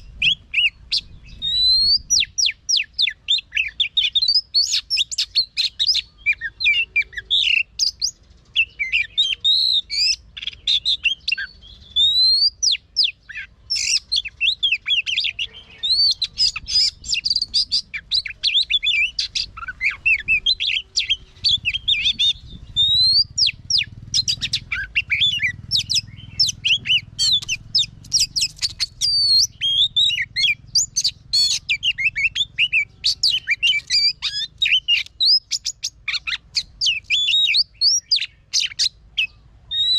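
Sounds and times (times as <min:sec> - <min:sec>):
bird singing varied whistles: 0:00.0 - 0:39.9.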